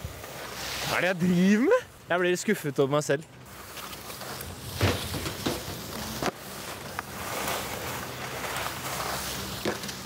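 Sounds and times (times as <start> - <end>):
skis scraping over snow: 0.0 - 1.8, 3.5 - 10.0.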